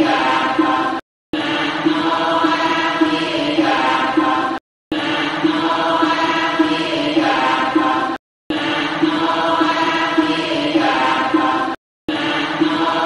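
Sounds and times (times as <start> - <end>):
devotional chanting: 0.0 - 13.0.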